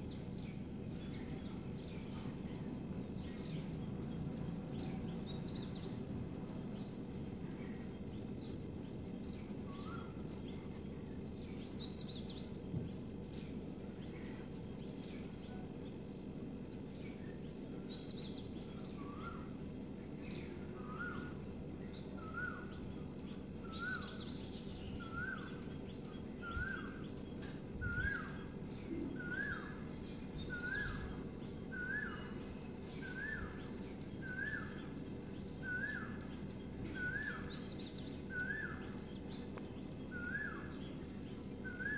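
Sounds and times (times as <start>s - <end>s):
birds chirping: 0.0s - 41.9s
low background noise: 0.0s - 41.9s.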